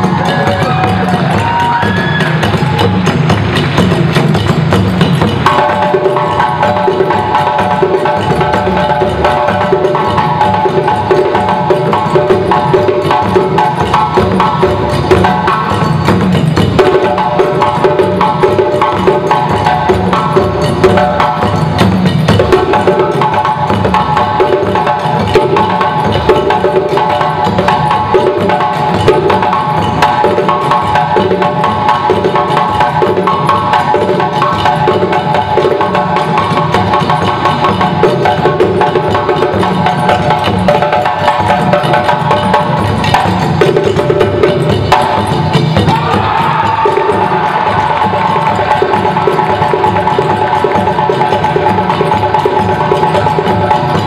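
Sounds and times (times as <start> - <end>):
djembe drum ensemble: 0.0 - 54.0.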